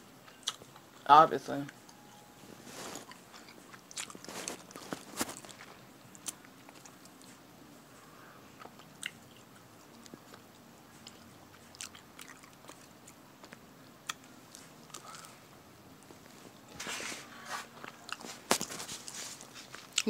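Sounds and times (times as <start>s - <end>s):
faint chewing of food: 0.2s - 1.0s, 1.6s - 16.7s, 17.3s - 20.0s.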